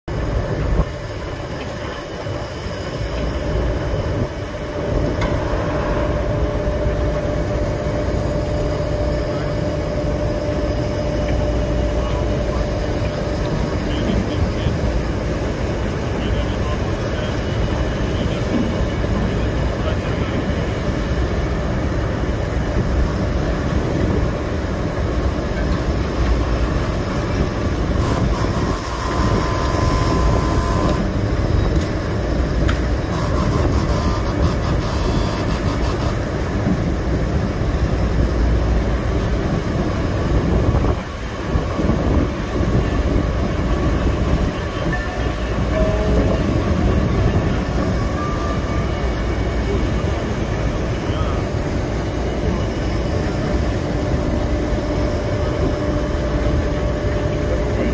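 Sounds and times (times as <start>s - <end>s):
heavy mechanical rumble: 0.0s - 57.9s
high machine whine: 0.1s - 57.9s.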